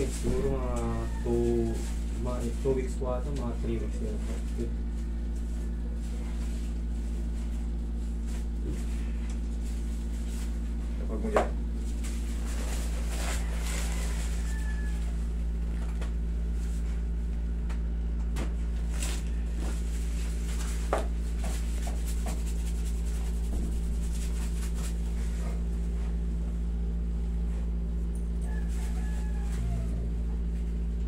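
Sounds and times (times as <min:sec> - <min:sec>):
air conditioner humming: 0:00.0 - 0:31.0.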